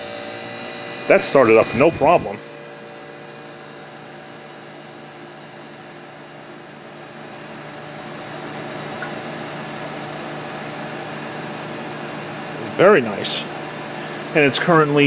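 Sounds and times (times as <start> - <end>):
dehumidifier humming: 0.0 - 15.0.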